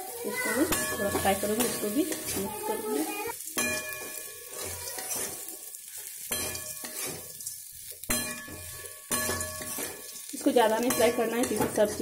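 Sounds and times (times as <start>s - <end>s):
vegetables sizzling in oil: 0.0s - 12.0s
metal spatula scraping a pan: 0.2s - 12.0s.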